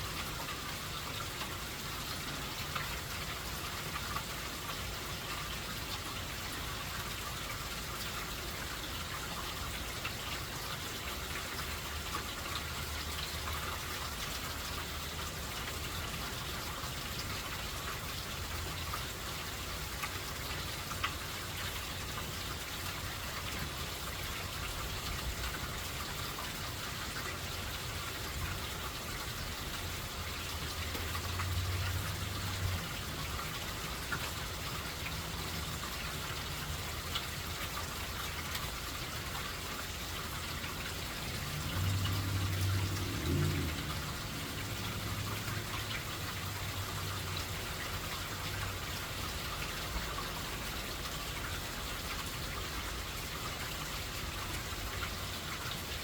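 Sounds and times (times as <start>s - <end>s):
raindrops ticking: 0.0s - 56.0s
steady rain falling: 0.0s - 56.0s.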